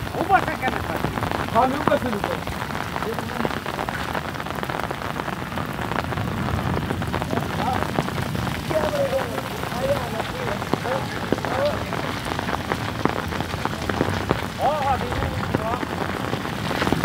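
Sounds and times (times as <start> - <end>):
rain and hail falling: 0.0 - 17.0.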